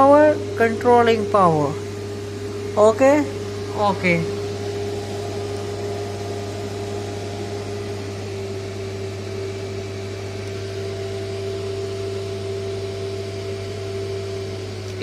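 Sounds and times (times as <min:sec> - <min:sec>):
equipment low hum: 0:00.0 - 0:15.0.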